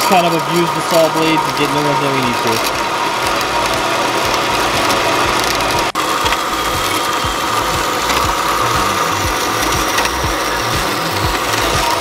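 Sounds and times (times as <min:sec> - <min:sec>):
band saw cutting steel: 0:00.0 - 0:12.0.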